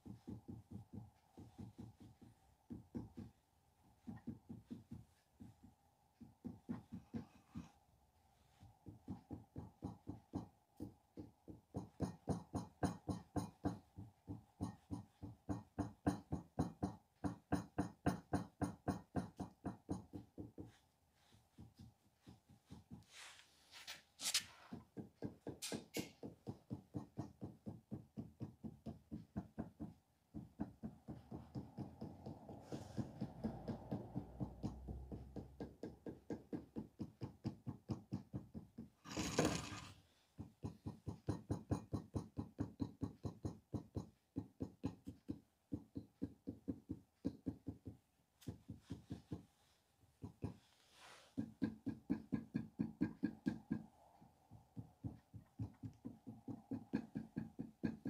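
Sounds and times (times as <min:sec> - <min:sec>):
tool beating clay: 0:00.0 - 0:23.3, 0:24.1 - 0:50.7, 0:51.3 - 0:58.0.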